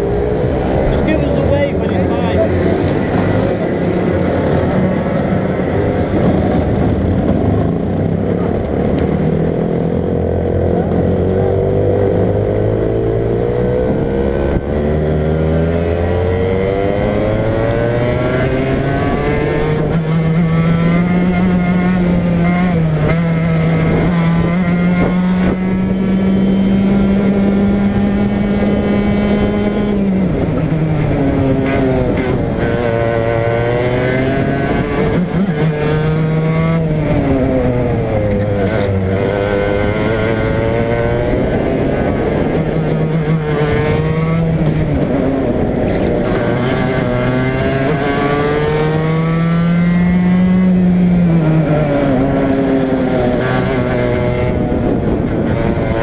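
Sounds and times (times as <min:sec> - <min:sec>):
racing kart engine at full throttle: 0:00.0 - 0:56.0.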